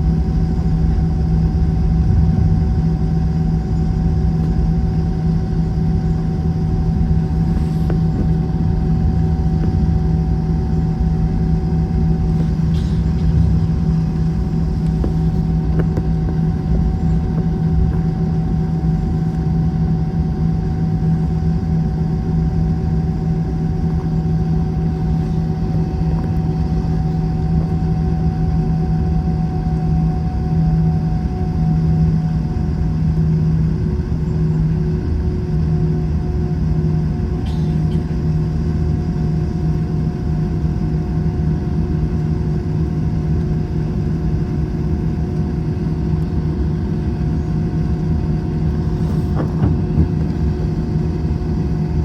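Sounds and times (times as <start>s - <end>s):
jet engine drone in cabin: 0.0s - 52.0s.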